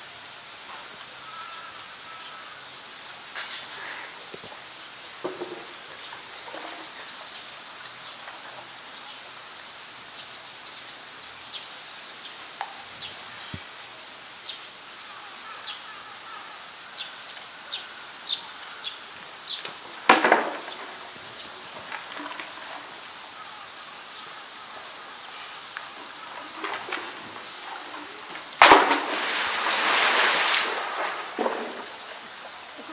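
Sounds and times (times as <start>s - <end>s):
steady low hiss: 0.0s - 32.9s.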